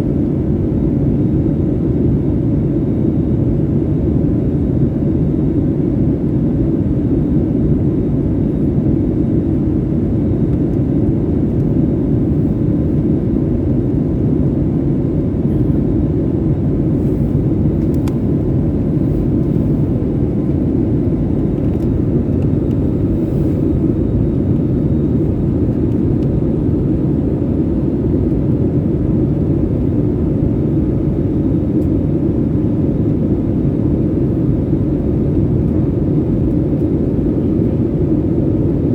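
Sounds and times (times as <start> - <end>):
faint engine hum: 0.0 - 38.9
jet engines and airflow roar: 0.0 - 38.9.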